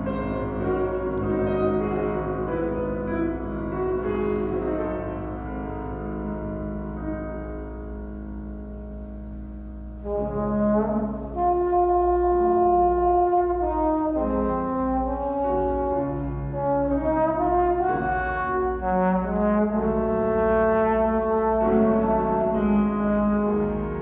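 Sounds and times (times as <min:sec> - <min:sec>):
trombone melody: 0:00.0 - 0:07.9, 0:10.0 - 0:24.0
piano accompaniment: 0:00.0 - 0:24.0.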